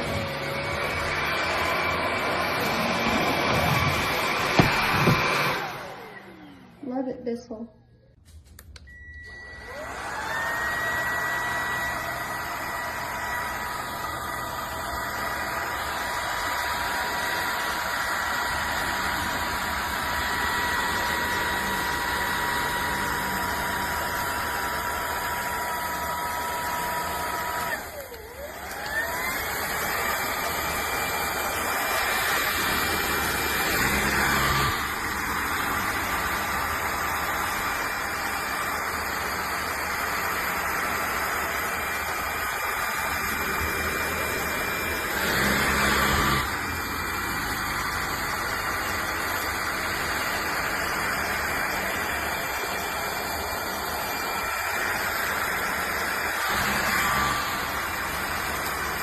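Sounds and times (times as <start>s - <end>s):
vacuum motor whining: 0.0s - 7.3s, 8.6s - 59.0s.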